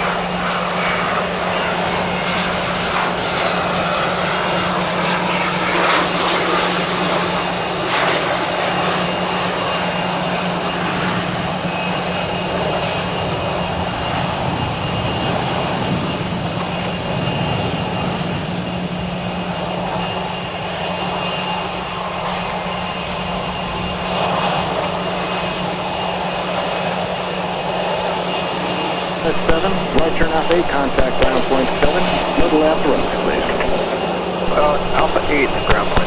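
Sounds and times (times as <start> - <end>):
jet engines running: 0.0 - 36.0.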